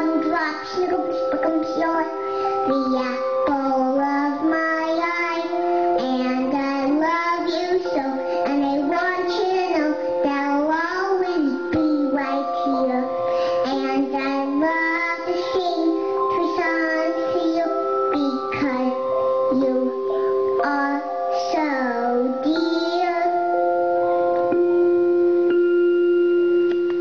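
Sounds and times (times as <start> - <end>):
person singing: 0.0 - 24.8.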